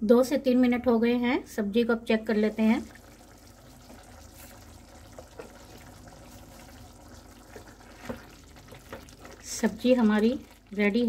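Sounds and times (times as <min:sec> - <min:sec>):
gravy bubbling: 0:02.0 - 0:11.0.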